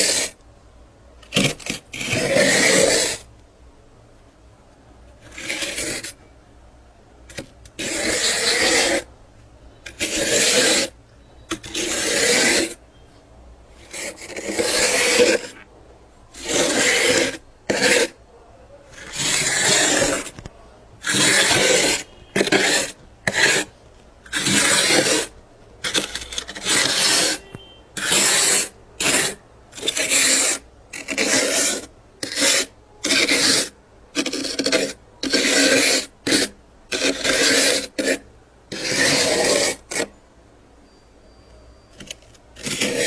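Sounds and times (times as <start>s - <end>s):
scraping frost in freezer: 0.0s - 0.4s, 1.2s - 3.3s, 5.2s - 6.2s, 7.3s - 9.1s, 9.8s - 12.8s, 13.7s - 15.7s, 16.3s - 18.2s, 18.8s - 40.2s, 41.9s - 43.0s.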